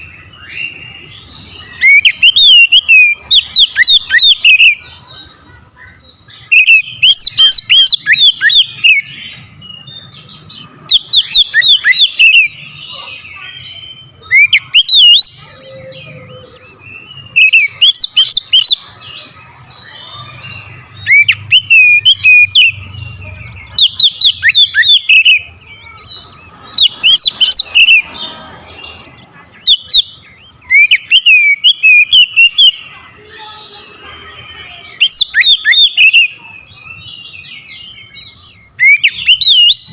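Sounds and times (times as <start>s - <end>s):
bird singing whistled notes: 0.0s - 5.3s, 6.1s - 39.9s.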